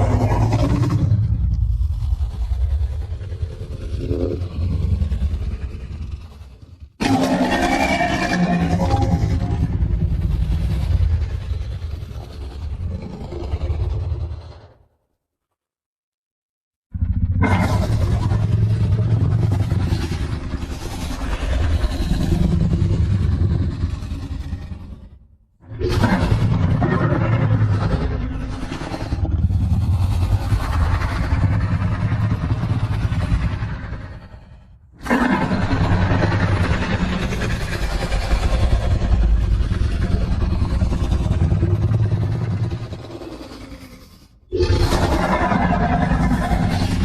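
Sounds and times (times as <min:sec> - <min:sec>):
loud rumbling monster roar: 0:00.0 - 0:14.9, 0:16.9 - 0:47.0.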